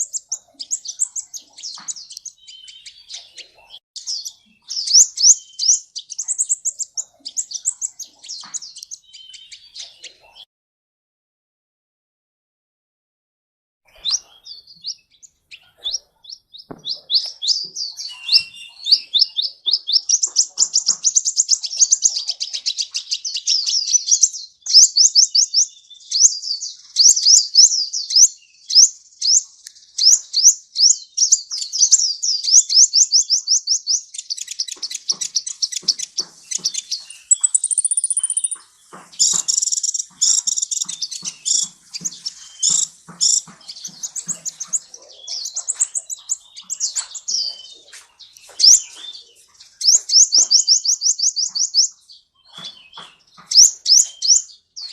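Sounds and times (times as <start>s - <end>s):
sunbird chirping song: 0.0s - 10.5s, 13.9s - 54.9s.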